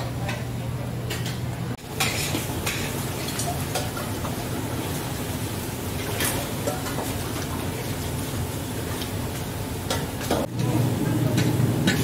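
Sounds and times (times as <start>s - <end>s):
low burner hum: 0.0s - 12.0s.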